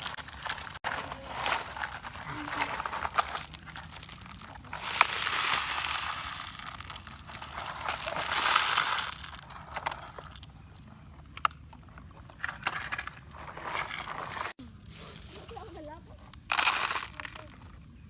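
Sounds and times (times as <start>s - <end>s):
small stones clicking: 0.0s - 14.5s, 16.4s - 17.6s
gravel crunching and rattling: 0.0s - 18.0s.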